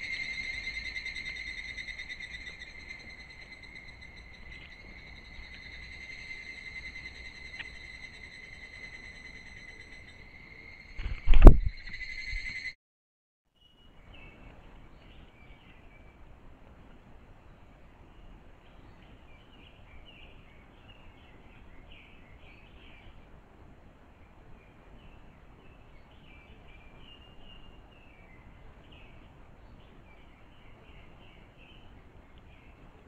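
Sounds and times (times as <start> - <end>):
low background hiss: 0.0 - 11.0, 13.6 - 33.0
songbirds chirping: 0.0 - 11.1, 13.6 - 33.0.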